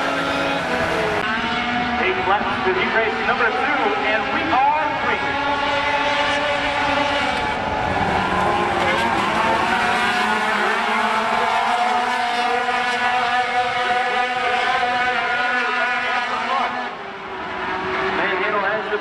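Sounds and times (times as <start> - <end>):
truck engines racing: 0.0 - 19.0.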